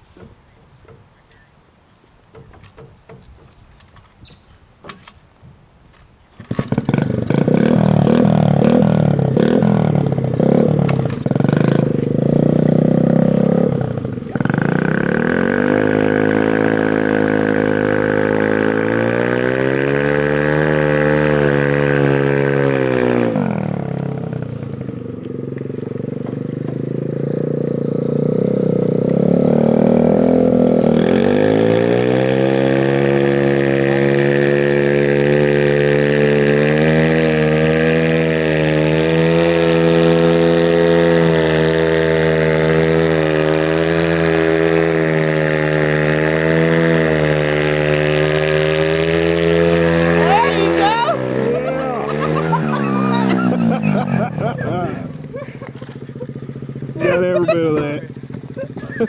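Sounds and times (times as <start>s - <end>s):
minibike engine revving: 6.3s - 59.0s.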